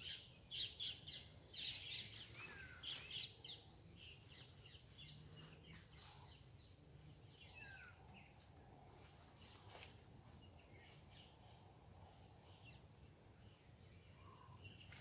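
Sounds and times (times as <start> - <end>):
faint bird chirps: 0.0 - 8.4, 9.3 - 15.0
low steady background hum: 0.0 - 15.0.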